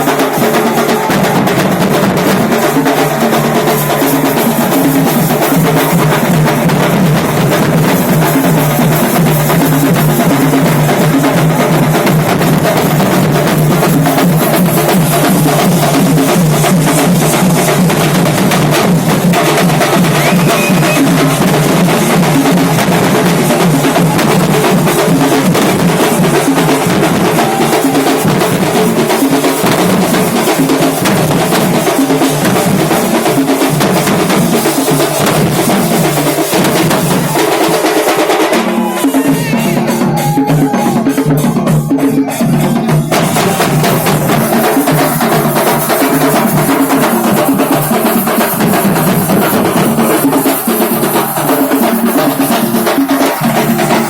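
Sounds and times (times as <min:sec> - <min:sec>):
fast loud drumming: 0:00.0 - 0:54.0.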